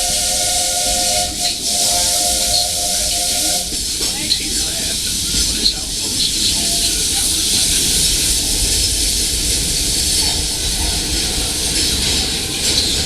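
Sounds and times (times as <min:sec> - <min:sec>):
steam hiss: 0:00.0 - 0:13.0
train low rumble: 0:00.0 - 0:13.0.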